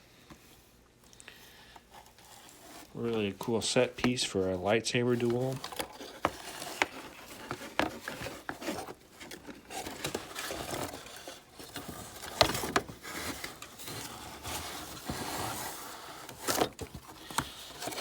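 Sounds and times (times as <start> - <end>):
plastic toys scraping in packaging: 1.8 - 18.0.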